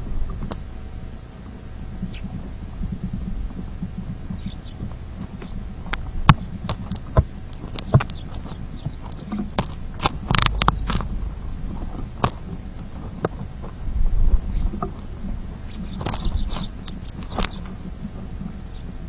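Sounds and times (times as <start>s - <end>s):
low steady rumble: 0.0s - 19.0s
birds pecking on plastic tray: 2.0s - 19.0s
rustling: 2.0s - 19.0s.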